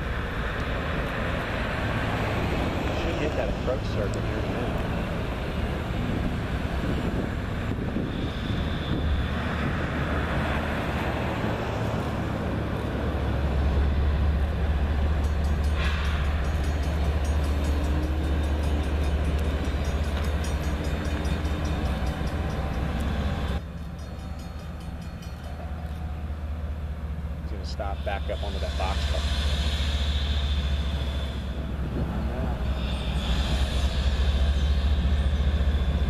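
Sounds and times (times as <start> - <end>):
diesel locomotive engine drone: 0.0 - 36.0.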